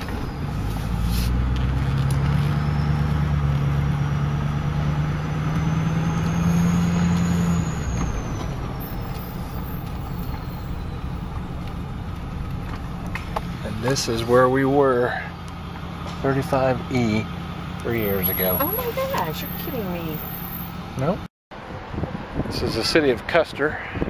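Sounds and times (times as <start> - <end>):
tyre and road noise: 0.0 - 24.0
vehicle engine hum: 0.0 - 24.0.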